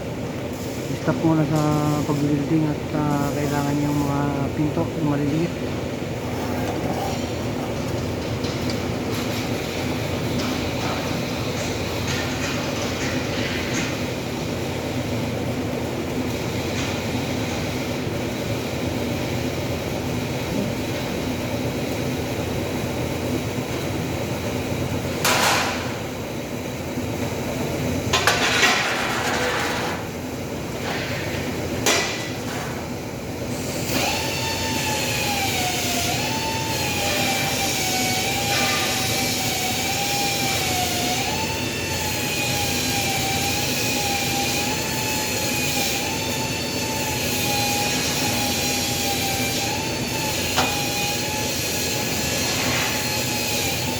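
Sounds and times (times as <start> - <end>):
metal shop machinery noise: 0.0 - 53.9.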